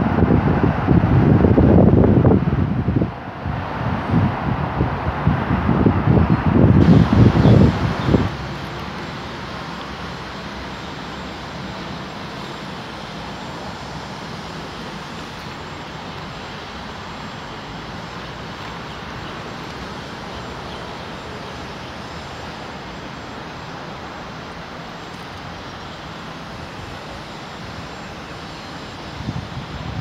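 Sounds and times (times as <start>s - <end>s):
outdoor background roar: 0.0s - 30.0s.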